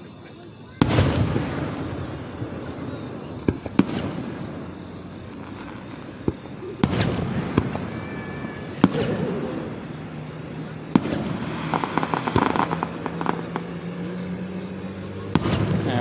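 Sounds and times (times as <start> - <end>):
fireworks bursting: 0.0 - 14.0, 14.7 - 16.0.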